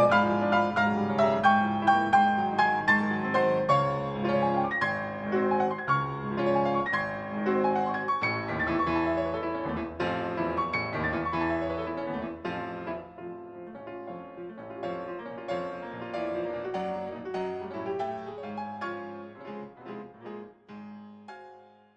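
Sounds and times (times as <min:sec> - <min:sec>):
solo piano music: 0:00.0 - 0:21.9.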